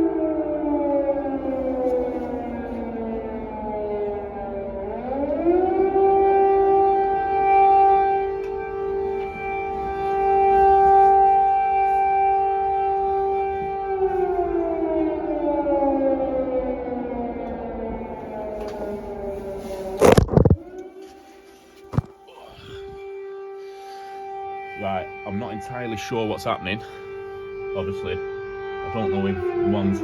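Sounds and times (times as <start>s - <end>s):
air raid siren wailing: 0.0s - 30.0s.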